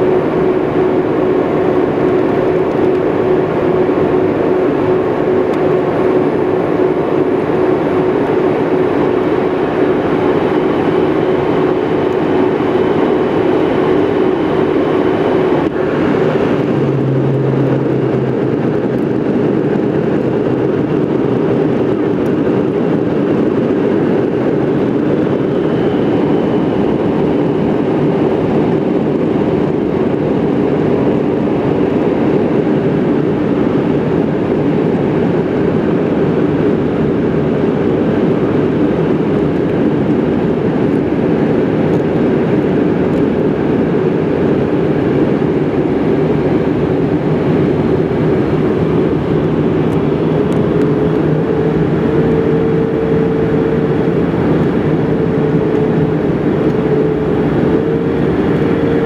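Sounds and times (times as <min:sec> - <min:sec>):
steady hum: 0:00.0 - 0:33.0, 0:37.0 - 0:59.0
jet cabin airflow and engine drone: 0:00.0 - 0:59.0.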